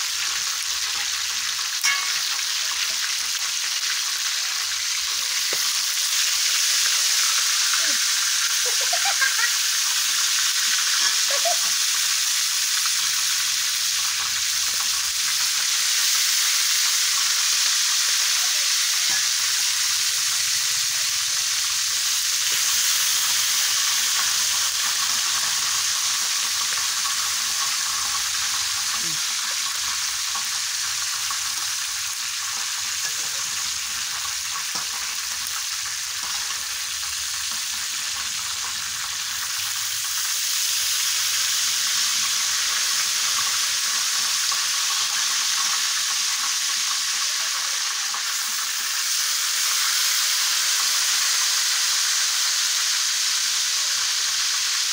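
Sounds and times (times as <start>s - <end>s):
frogs sizzling in hot oil: 0.0s - 54.9s.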